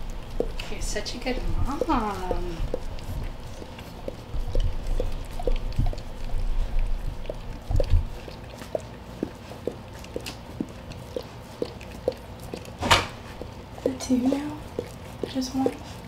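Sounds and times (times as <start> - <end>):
dog licking puppy: 0.0 - 16.0.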